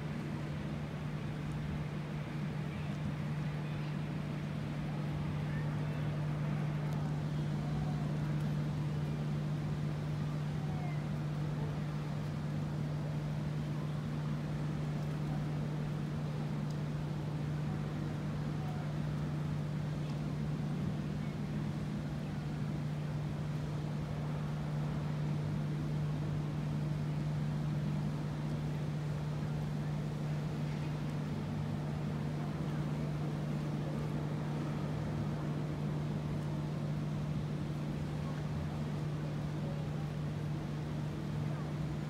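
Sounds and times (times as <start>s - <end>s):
constant low hum: 0.0s - 42.0s
ship engines droning: 0.0s - 42.0s.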